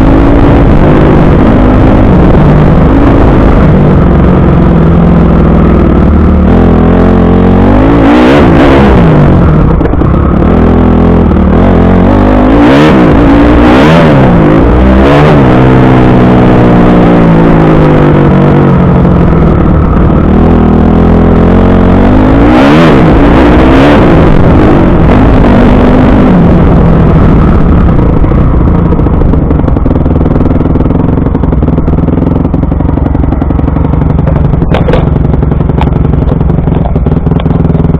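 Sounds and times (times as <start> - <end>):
motocross bike engine revving: 0.0 - 37.9.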